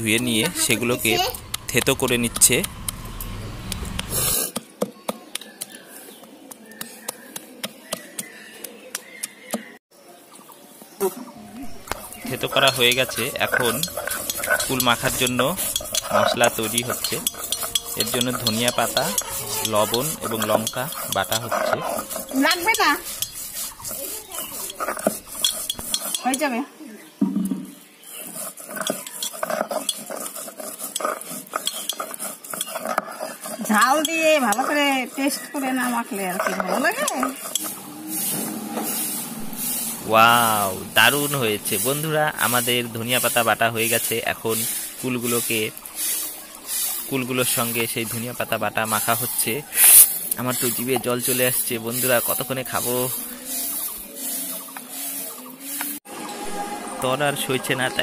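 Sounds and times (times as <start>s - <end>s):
stone roller scraping grinding stone: 0.0s - 4.6s, 11.6s - 26.6s, 28.0s - 56.7s.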